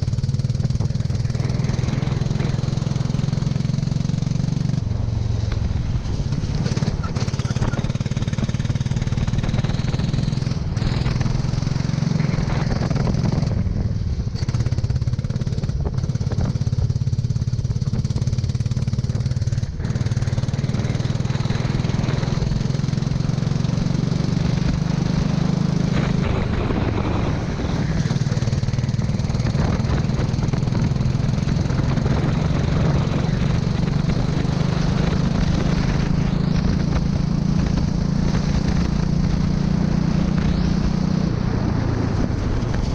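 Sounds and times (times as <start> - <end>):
go-kart engine revving: 0.0 - 42.9
steady rushing noise: 0.0 - 42.9.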